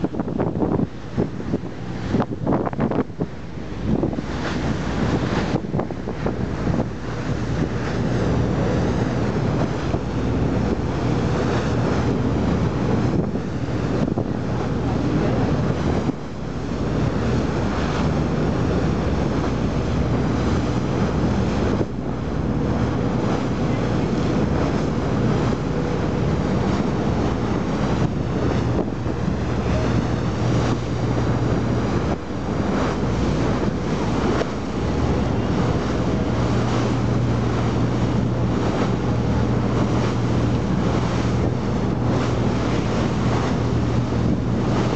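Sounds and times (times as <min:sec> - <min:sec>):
boat engine humming: 0:00.0 - 0:44.9
sea wash: 0:00.0 - 0:44.9
wind buffeting microphone: 0:00.0 - 0:44.9.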